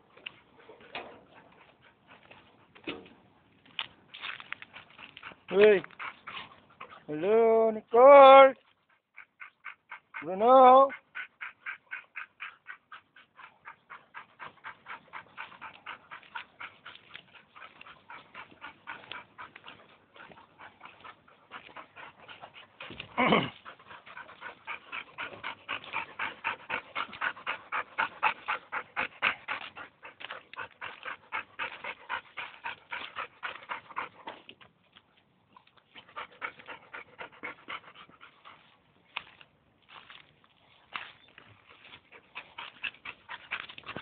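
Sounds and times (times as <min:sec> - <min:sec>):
dog panting: 0:00.0 - 0:44.0.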